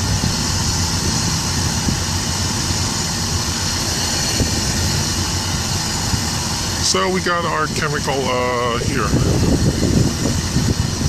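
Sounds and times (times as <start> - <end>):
ship machinery rumble: 0.0 - 11.0
wind buffeting microphone: 0.0 - 11.0.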